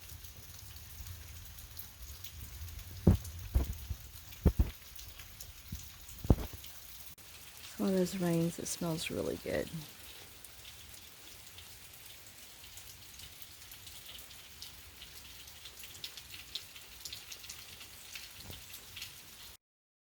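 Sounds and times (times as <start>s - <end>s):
rain falling: 0.0s - 19.6s
raindrops ticking on a surface: 0.0s - 19.6s.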